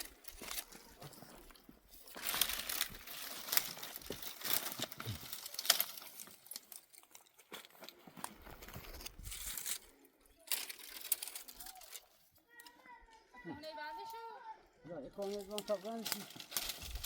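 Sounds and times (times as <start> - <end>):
rustling and crinkling: 0.0 - 14.2, 15.0 - 17.0.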